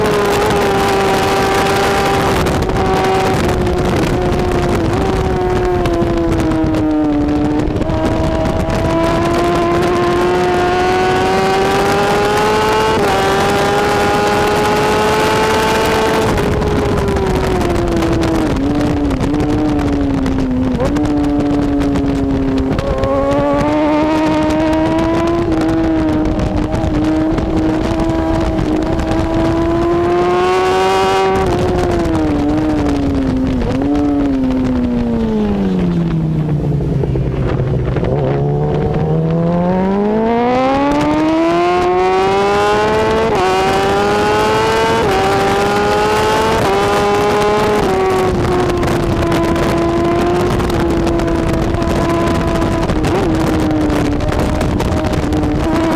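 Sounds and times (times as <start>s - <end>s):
motorcycle engine revving through gears: 0.0s - 55.9s.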